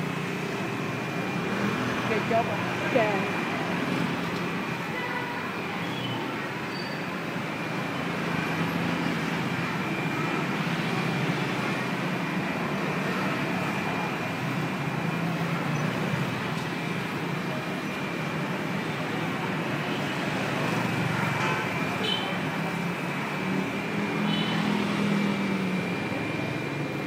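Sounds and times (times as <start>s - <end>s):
scooters and cars passing: 0.0s - 27.0s
street traffic: 0.0s - 27.0s.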